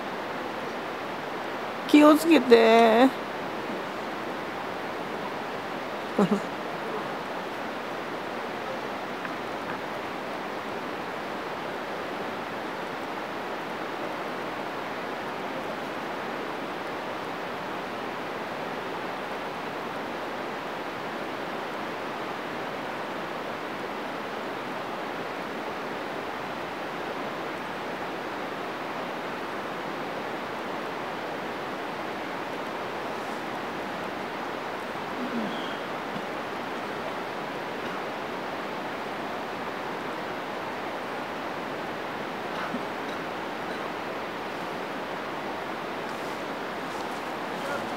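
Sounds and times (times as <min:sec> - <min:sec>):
water flowing: 0:00.0 - 0:47.9.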